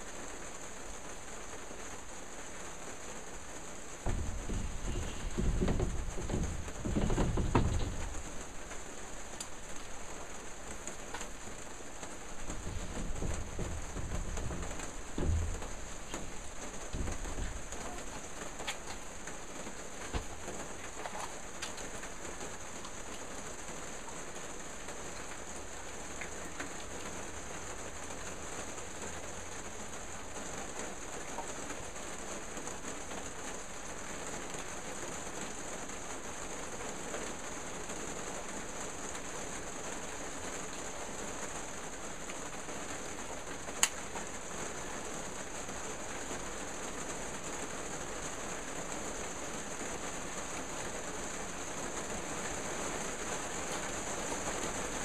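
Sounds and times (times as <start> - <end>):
hiss of background noise: 0.0 - 55.0.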